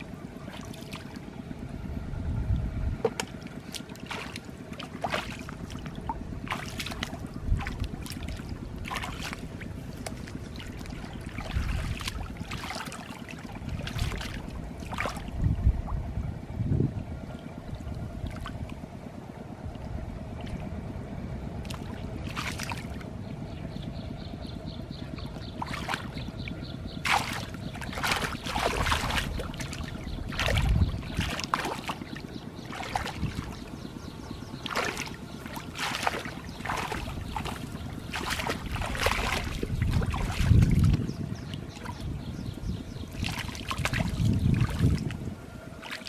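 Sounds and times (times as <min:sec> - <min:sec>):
muddy water splashing: 0:00.0 - 0:01.8, 0:02.9 - 0:16.5, 0:17.1 - 0:23.7, 0:24.4 - 0:46.0.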